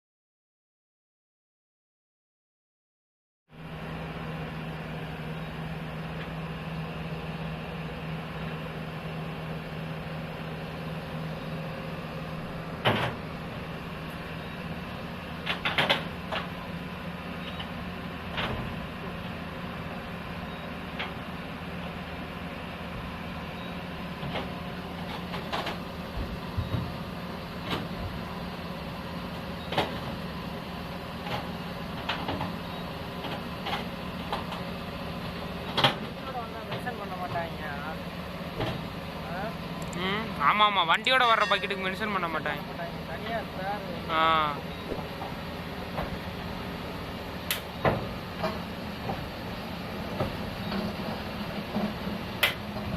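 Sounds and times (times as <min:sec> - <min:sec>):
diesel engine idling: 0:03.6 - 0:52.9.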